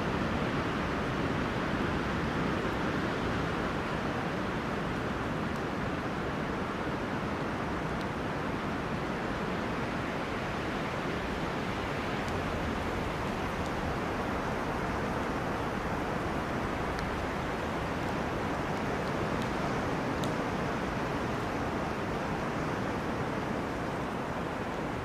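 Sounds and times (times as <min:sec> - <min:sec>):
wind rushing through trees: 0:00.0 - 0:25.0.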